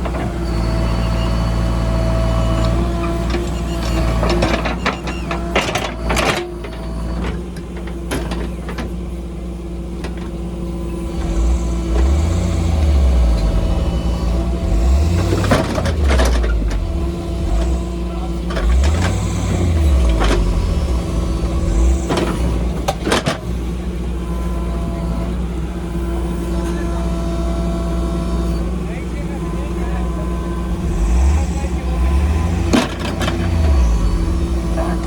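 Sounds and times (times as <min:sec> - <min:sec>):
heavy diesel engines under load: 0:00.0 - 0:35.0.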